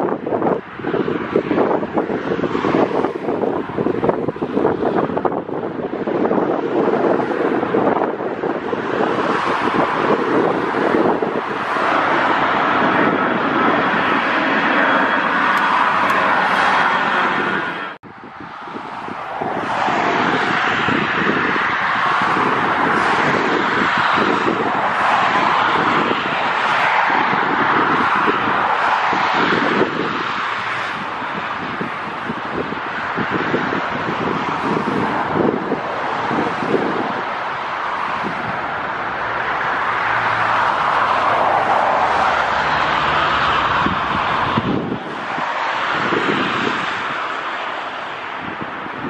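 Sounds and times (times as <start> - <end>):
jet engines roaring: 0.0 - 49.0
wind buffeting microphone: 0.0 - 49.0.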